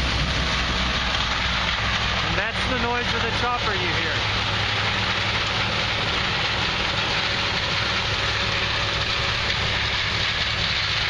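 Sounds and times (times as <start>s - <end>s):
chopper hissing rush: 0.0s - 11.0s
combine harvester engine hum: 0.0s - 11.0s.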